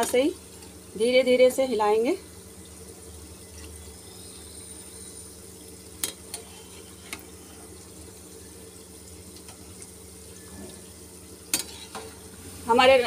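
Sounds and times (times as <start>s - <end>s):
gentle sizzle of frying: 0.0s - 13.0s.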